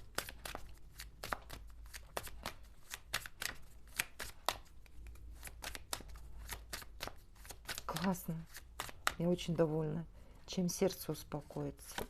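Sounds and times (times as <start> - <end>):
cards being shuffled: 0.0 - 9.2, 11.4 - 12.0.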